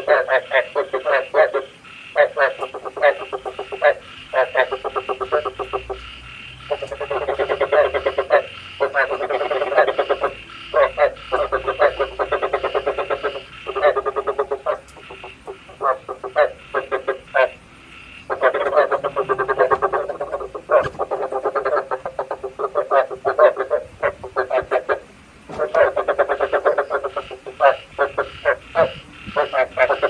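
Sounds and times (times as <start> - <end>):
frogs croaking: 0.0 - 30.0.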